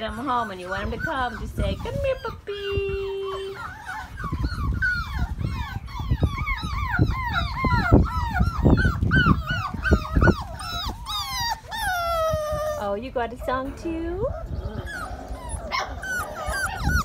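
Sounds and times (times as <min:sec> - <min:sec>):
puppies yipping and whining: 0:00.0 - 0:17.0.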